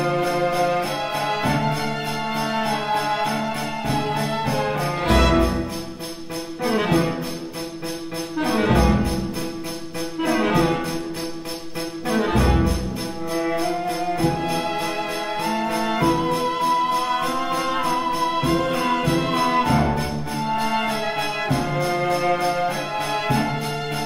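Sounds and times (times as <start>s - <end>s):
orchestral music with brass: 0.0s - 24.0s.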